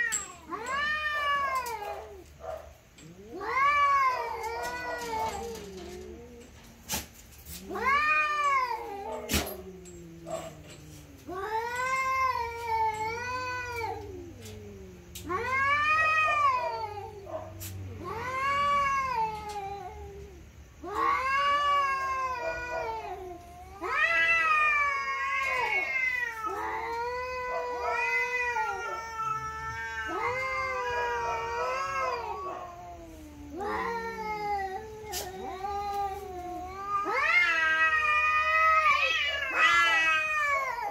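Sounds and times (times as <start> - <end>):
cats caterwauling: 0.0 - 40.9.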